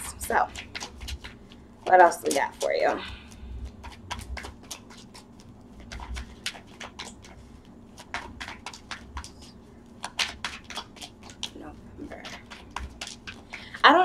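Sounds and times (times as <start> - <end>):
cards being shuffled: 0.2 - 13.8.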